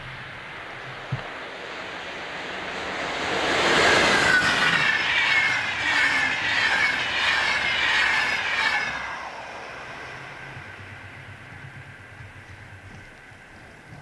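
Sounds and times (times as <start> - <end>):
whining tones sliding down: 0.0 - 13.0
passenger train passing: 0.0 - 14.0.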